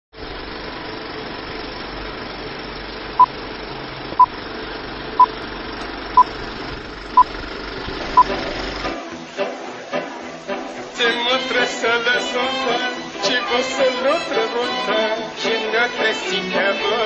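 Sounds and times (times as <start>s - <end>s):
film projector whirr and hiss: 0.2s - 17.0s.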